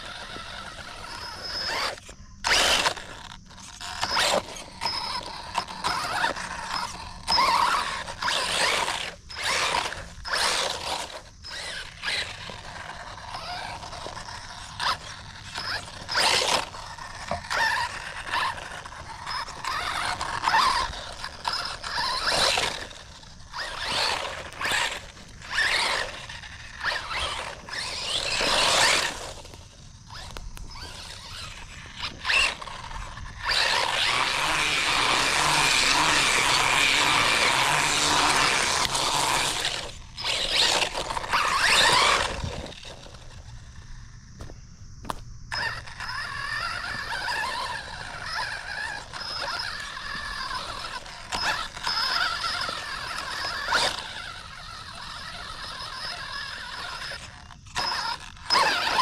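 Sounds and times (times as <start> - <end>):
toy truck motor whirring: 0.0 - 59.0.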